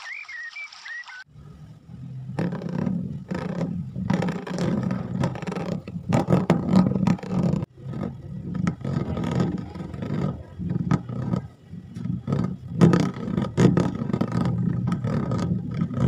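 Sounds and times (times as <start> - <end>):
hand rubbing plastic lid: 2.2 - 16.0.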